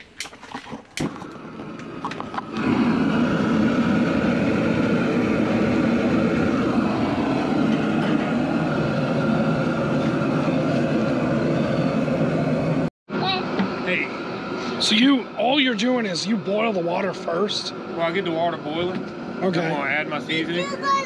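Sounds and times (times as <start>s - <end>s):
burner flame roaring: 0.7s - 21.0s.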